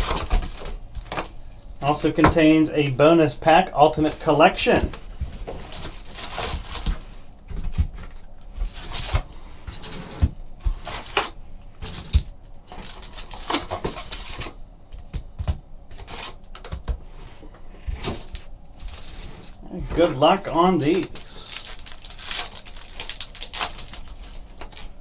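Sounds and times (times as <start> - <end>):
card packs rustling: 0.0 - 25.0.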